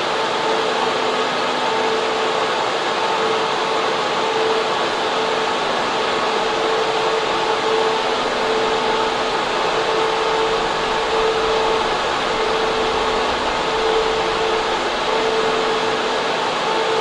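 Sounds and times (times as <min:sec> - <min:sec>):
constant hum: 0:00.0 - 0:17.0
cooling fans rushing: 0:00.0 - 0:17.0.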